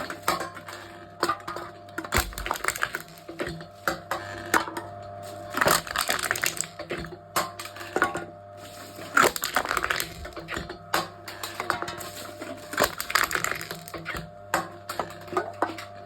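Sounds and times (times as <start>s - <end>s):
drink cans crushed in a machine: 0.0s - 16.0s.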